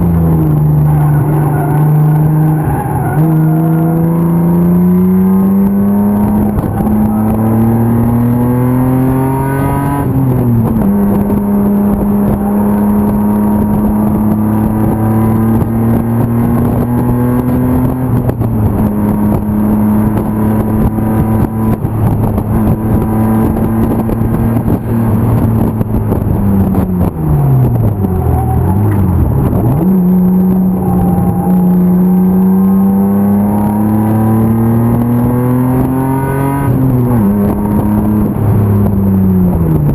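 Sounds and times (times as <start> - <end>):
racing car engine accelerating: 0.0 - 39.9.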